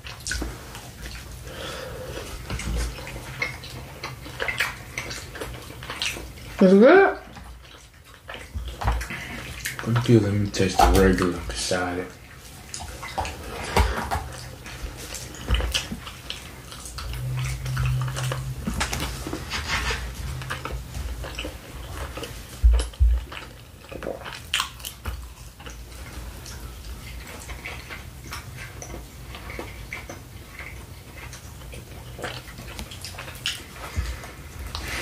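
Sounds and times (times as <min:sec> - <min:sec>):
wet chewing and smacking: 0:00.0 - 0:35.0.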